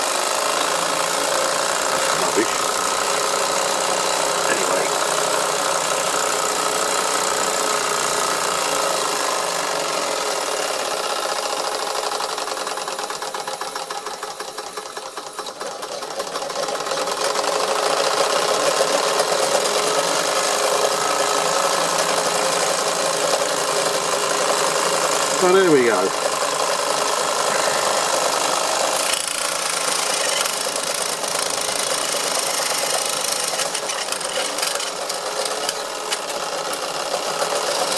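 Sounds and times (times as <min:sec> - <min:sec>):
toy steam engine clattering: 0:00.0 - 0:37.9.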